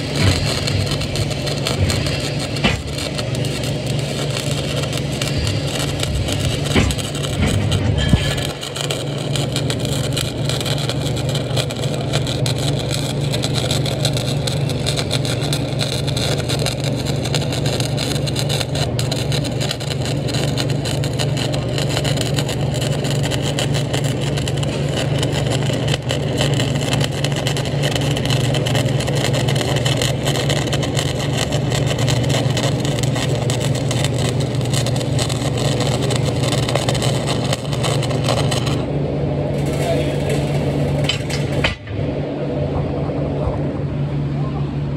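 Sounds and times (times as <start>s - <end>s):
welding arc crackling: 0.0s - 42.6s
low hum: 0.0s - 44.9s.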